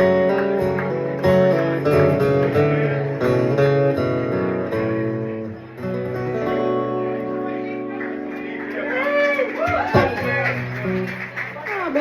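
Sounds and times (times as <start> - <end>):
acoustic guitar strumming: 0.0 - 8.6, 9.9 - 11.4.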